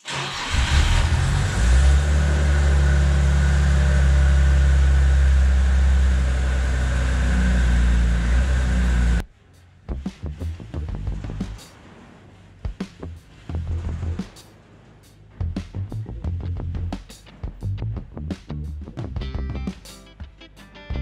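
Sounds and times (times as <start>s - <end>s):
vehicle engine idling: 0.1s - 20.4s.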